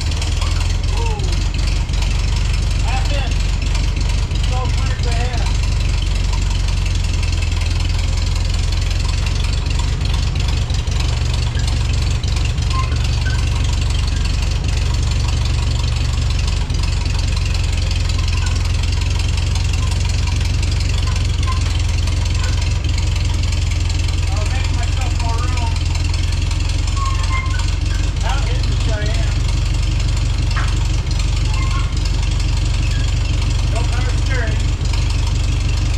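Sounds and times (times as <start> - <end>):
tractor engine idling: 0.0 - 35.9.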